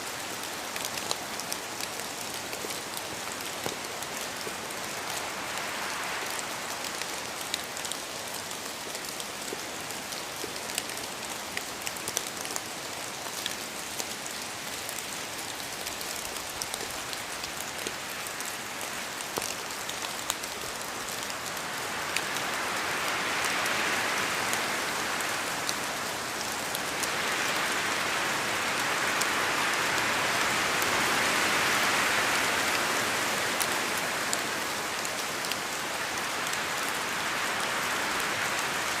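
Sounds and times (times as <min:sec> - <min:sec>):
rain in a forest: 0:00.0 - 0:39.0.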